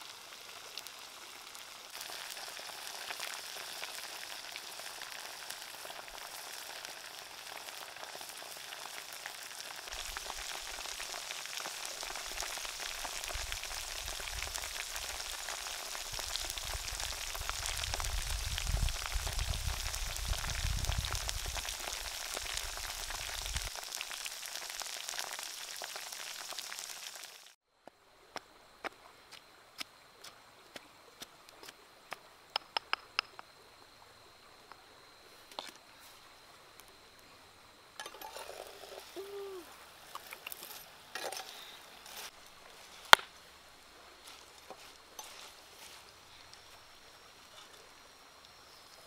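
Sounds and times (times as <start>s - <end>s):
crickets sizzling in a pot: 0.0s - 27.6s, 28.6s - 49.0s.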